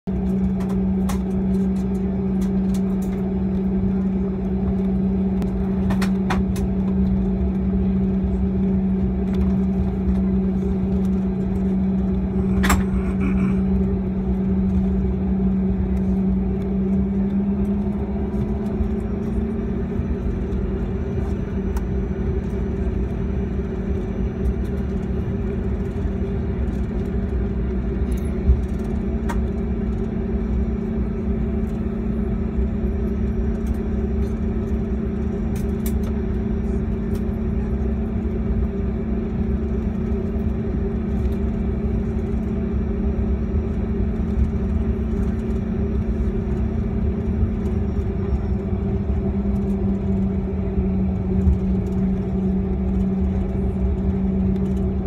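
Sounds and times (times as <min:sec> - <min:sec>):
low rumble: 0:00.0 - 0:55.0
jet engine drone: 0:00.1 - 0:55.0.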